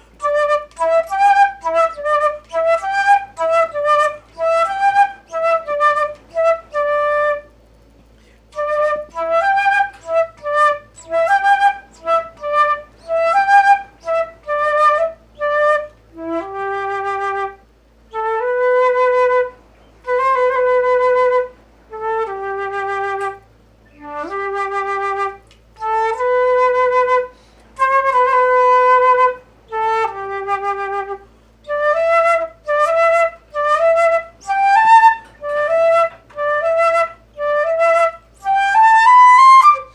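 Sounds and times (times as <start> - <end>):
solo flute melody: 0.0 - 7.6, 8.2 - 39.9.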